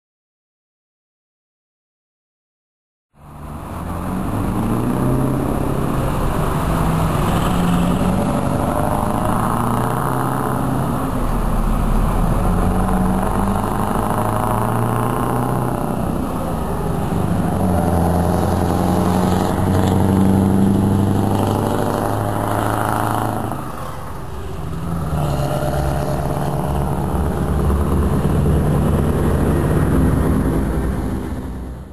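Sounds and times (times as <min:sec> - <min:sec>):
truck engine accelerating: 0:03.2 - 0:31.9.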